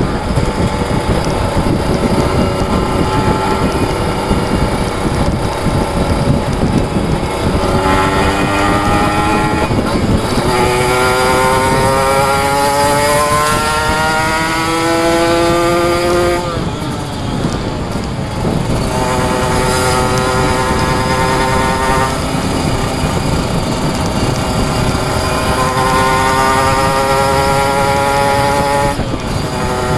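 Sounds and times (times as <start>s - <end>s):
two-stroke motorcycle engine accelerating: 0.0s - 29.9s.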